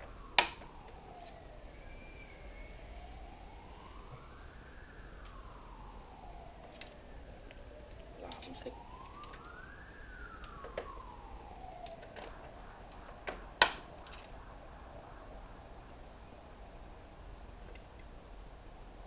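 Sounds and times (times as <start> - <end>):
faint wailing siren: 0.0 - 19.0.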